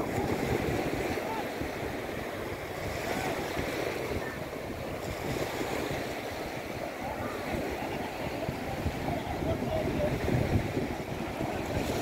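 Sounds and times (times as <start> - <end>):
small waves washing up a sandy shore: 0.0 - 12.0
wind buffeting the microphone: 0.0 - 12.0.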